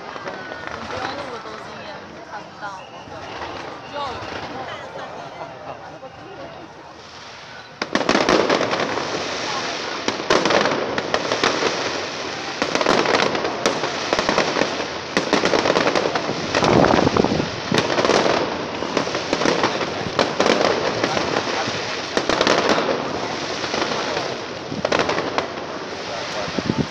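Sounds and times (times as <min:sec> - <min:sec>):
fireworks bangs and crackling: 0:00.0 - 0:26.9.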